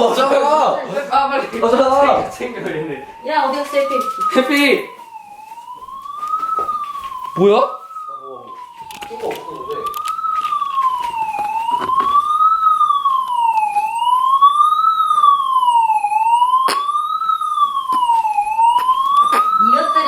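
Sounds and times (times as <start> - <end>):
siren wailing through speaker: 0.0 - 20.0.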